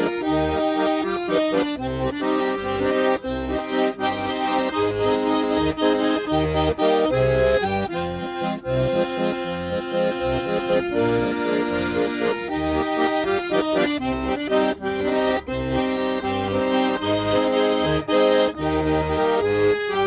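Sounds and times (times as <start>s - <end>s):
button accordion playing: 0.0s - 20.0s.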